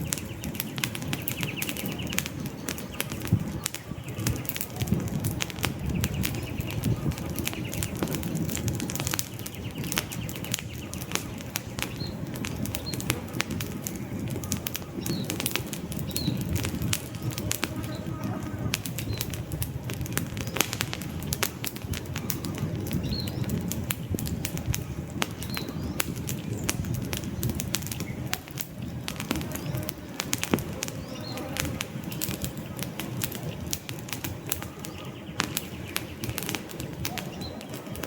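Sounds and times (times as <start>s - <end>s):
rush of flames: 0.0s - 38.0s
wood crackling and popping: 0.0s - 38.0s.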